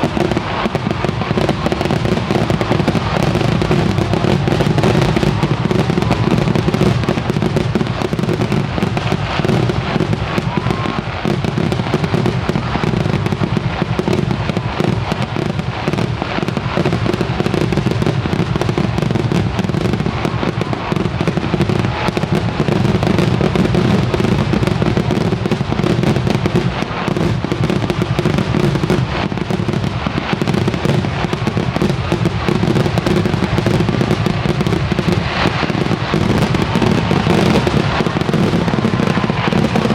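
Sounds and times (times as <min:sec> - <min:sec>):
fireworks exploding and crackling: 0:00.0 - 0:39.9.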